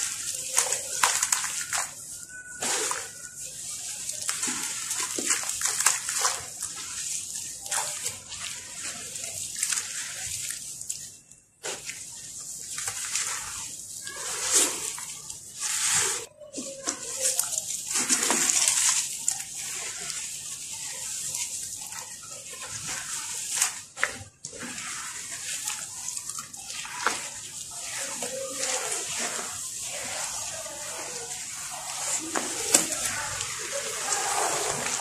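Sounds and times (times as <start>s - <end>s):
wet gritty crackling and sloshing: 0.0s - 35.0s.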